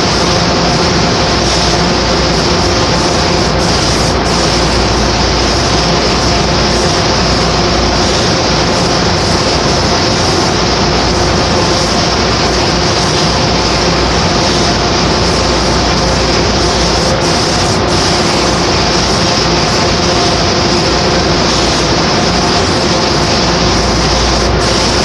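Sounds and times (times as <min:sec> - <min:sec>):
extraction fan humming: 0:00.0 - 0:25.0
spray gun air hiss: 0:00.0 - 0:25.0.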